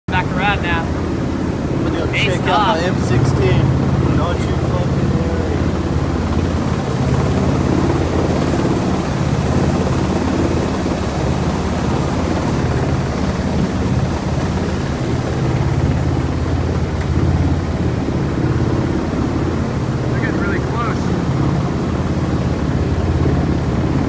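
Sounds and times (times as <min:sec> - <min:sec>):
helicopter rotor and engine drone: 0:00.1 - 0:24.0.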